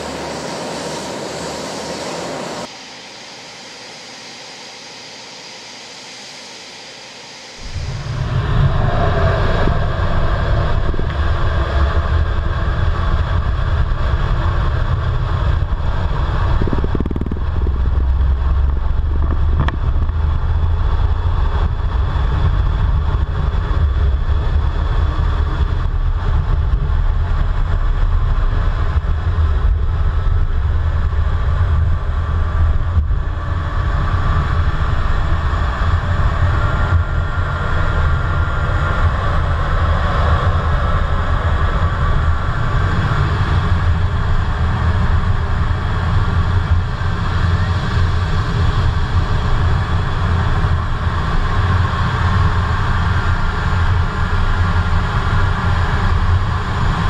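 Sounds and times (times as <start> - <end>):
jet engines roaring in cockpit: 0.0 - 57.0.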